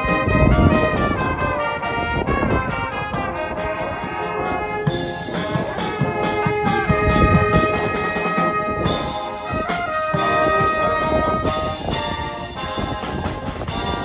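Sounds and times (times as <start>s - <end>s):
brass band playing: 0.0s - 14.0s
drum kit and bass drum: 0.0s - 14.0s.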